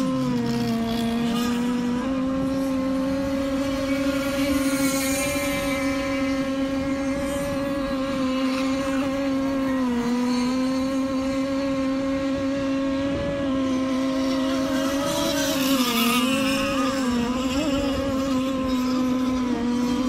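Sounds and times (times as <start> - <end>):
speedboat engine running: 0.0 - 20.0.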